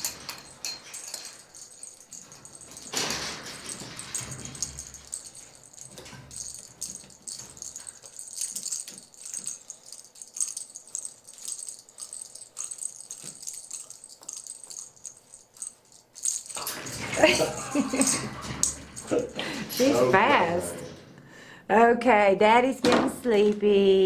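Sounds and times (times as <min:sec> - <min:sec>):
toy ball bell jingling: 0:00.0 - 0:20.2.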